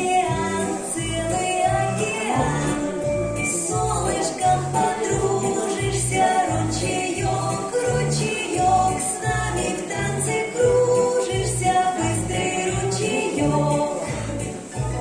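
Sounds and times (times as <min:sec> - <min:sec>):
children's dance song: 0:00.0 - 0:15.0.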